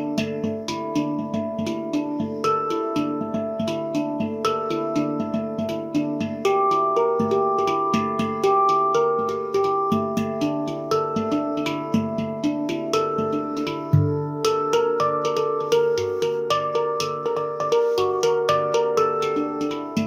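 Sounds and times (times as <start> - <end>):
handpan notes ringing: 0.0 - 20.0.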